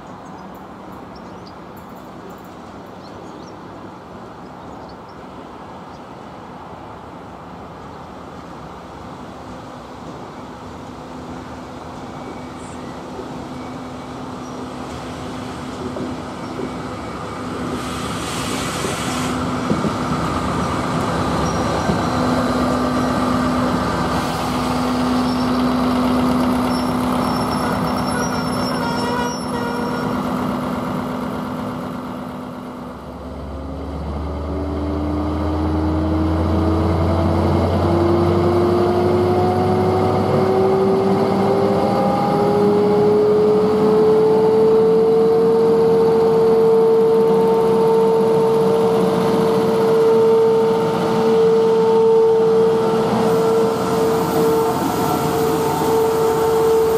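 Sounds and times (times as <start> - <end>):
locomotive hum: 0.0 - 56.9
rising locomotive whine: 10.4 - 56.9.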